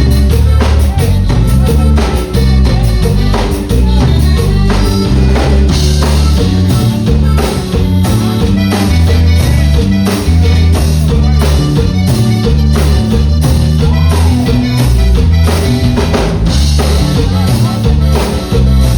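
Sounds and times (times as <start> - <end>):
live band playing: 0.0 - 18.9.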